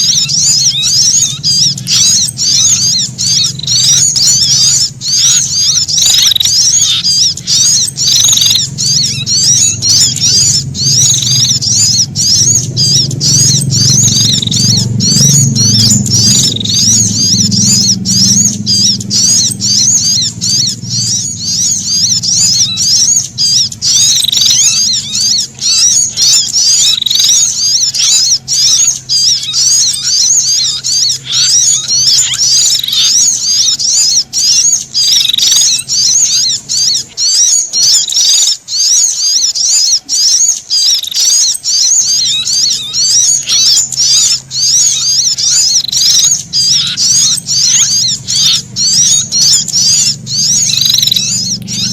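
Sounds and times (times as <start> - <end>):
low hum: 0.0 - 37.8, 41.7 - 51.9
high-pitched bird alarm chirps: 0.0 - 51.9.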